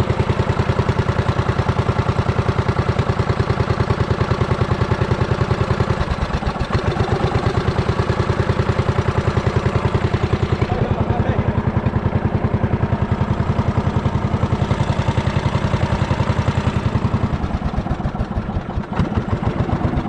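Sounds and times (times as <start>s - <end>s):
small engine chugging: 0.0s - 20.0s.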